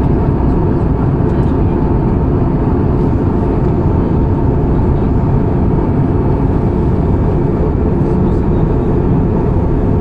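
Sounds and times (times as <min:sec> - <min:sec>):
airplane cabin roar: 0:00.0 - 0:10.0.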